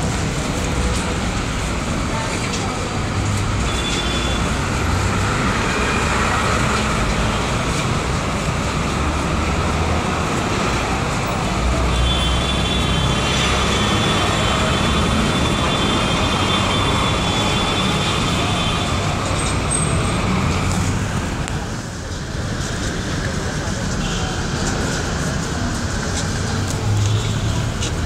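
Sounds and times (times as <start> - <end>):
crowded train platform din: 0.0 - 28.0.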